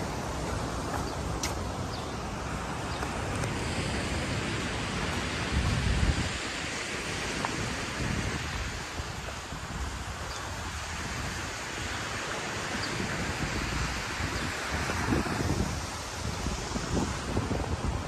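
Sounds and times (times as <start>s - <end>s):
distant sea surf: 0.0s - 18.0s
wind buffeting microphone: 0.0s - 18.0s.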